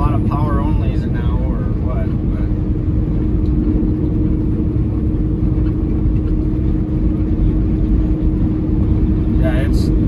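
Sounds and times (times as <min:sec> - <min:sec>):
truck engine and road drone: 0:00.0 - 0:10.0.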